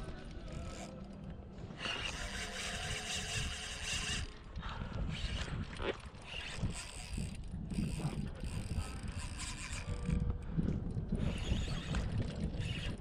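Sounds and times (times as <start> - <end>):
fishing reel whirring and clicking: 0.0 - 13.0.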